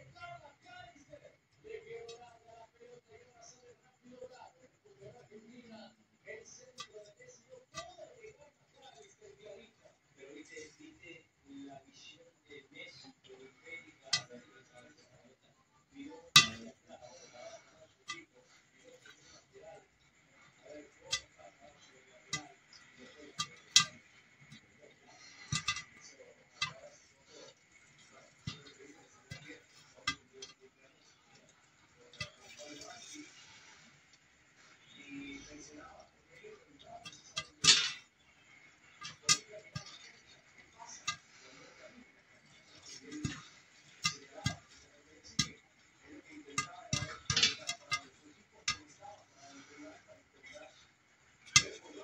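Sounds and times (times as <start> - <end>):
popcorn popping in a pot: 0.0 - 52.0.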